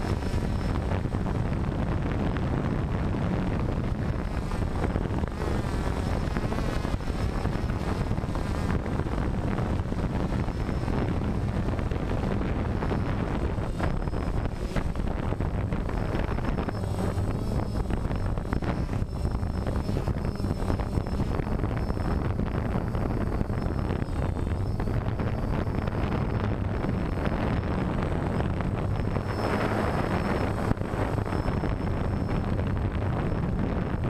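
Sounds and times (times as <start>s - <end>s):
drone motors and propellers whirring: 0.0s - 34.0s.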